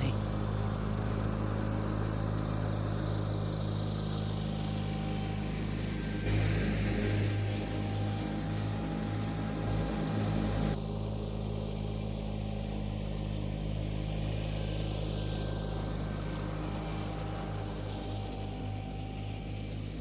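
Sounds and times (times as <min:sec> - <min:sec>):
lawn tractor engine mowing: 0:00.0 - 0:20.0.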